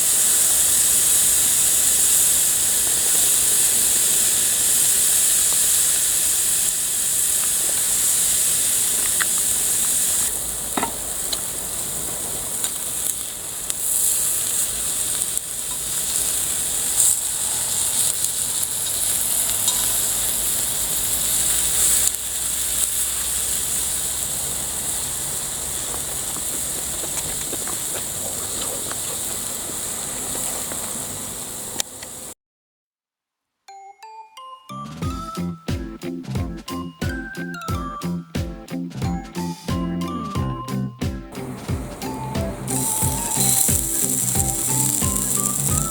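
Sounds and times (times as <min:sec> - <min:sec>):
food sizzling in a pan: 0:00.0 - 0:32.4, 0:41.4 - 0:45.9.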